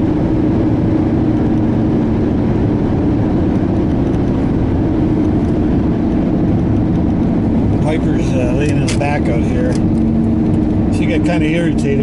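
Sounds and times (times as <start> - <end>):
vehicle cabin engine and road noise: 0.0 - 12.0.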